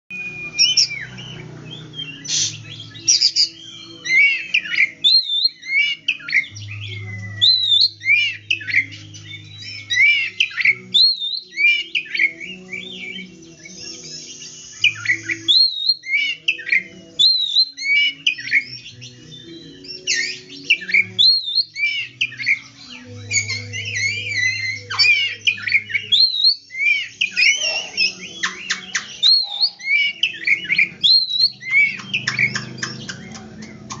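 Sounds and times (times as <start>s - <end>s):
bird singing whistled phrases: 0.1s - 34.0s.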